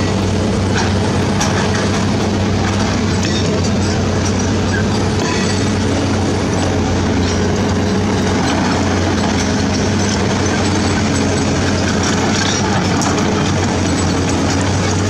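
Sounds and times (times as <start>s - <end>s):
diesel machinery engine hum: 0.0s - 15.0s.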